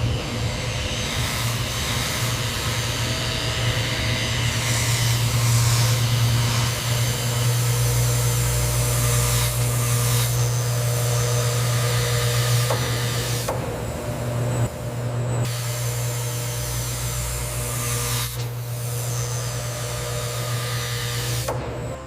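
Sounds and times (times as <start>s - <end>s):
machine humming and hissing: 0.0s - 22.0s.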